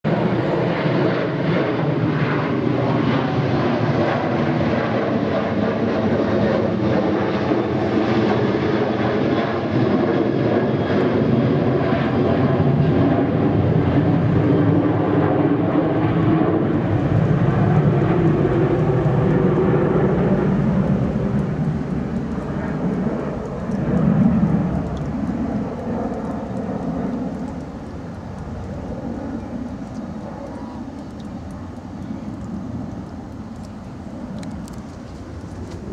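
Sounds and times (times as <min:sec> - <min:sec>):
loud jet engine roar: 0:00.1 - 0:35.9.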